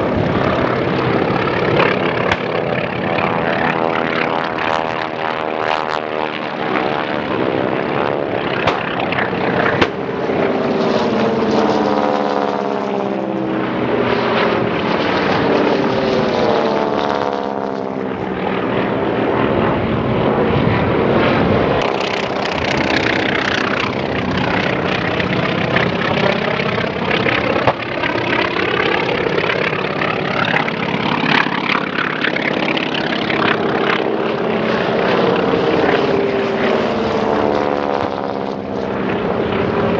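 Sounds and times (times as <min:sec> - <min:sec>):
propeller planes flying past: 0:00.0 - 0:39.9.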